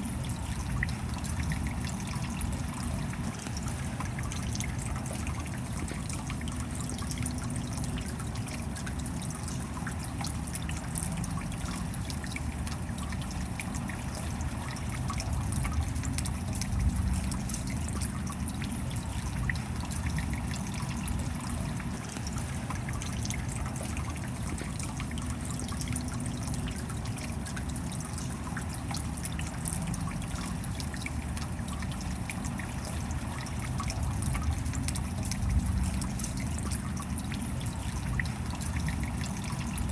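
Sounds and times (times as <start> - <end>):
steady rain dripping and pattering: 0.0 - 39.9
water trickling: 0.0 - 39.9.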